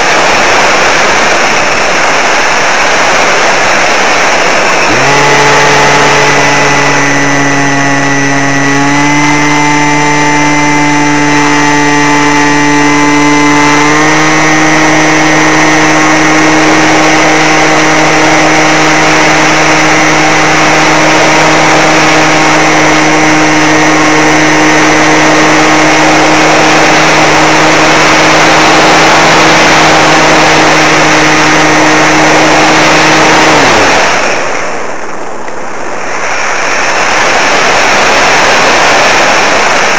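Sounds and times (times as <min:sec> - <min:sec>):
model plane electric motor whine: 0:00.0 - 0:35.2, 0:36.0 - 0:39.9
loud rushing noise: 0:00.0 - 0:39.9.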